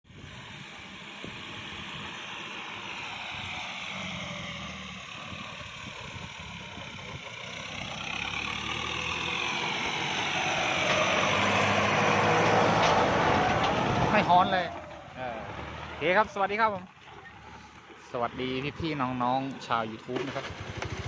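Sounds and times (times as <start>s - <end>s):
tractor diesel engine running: 0.1s - 21.0s.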